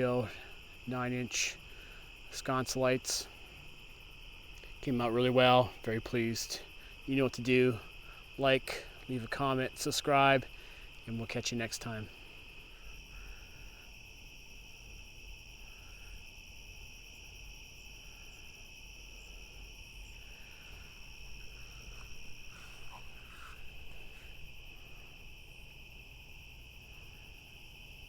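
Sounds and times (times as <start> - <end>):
higher insect trill: 0.0 - 28.0
insects trilling: 0.0 - 28.0.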